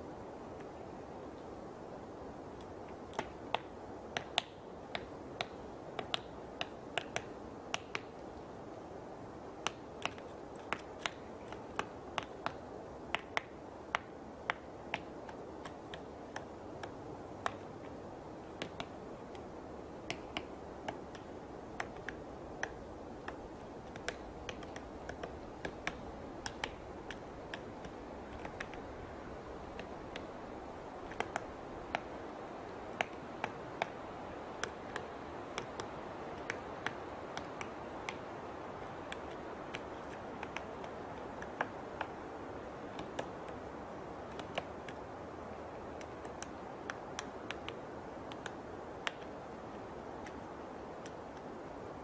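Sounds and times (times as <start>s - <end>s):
steady background noise: 0.0s - 52.0s
woodpecker pecking wood: 2.6s - 8.2s, 9.6s - 43.6s, 44.2s - 45.1s, 45.9s - 49.4s.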